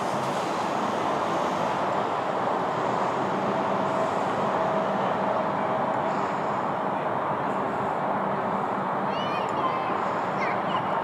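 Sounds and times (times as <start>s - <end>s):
distant propeller engines droning: 0.0s - 11.0s.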